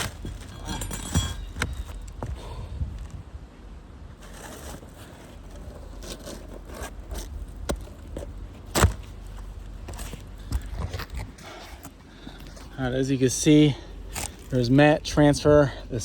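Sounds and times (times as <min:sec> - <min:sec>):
shingle scraping and crackling: 0:00.0 - 0:03.2, 0:04.1 - 0:16.0.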